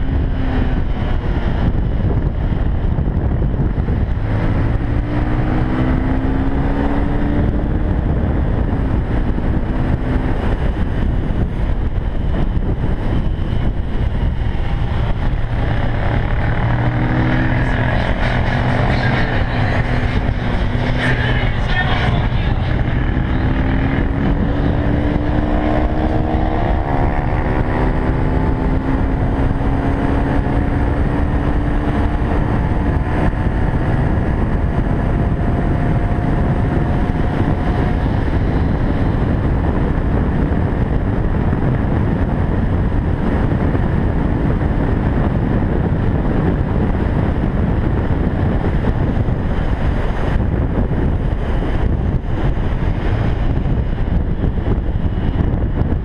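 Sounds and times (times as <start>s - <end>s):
motorcycle engine at speed: 0.0s - 56.0s
wind rushing over microphone: 0.0s - 56.0s.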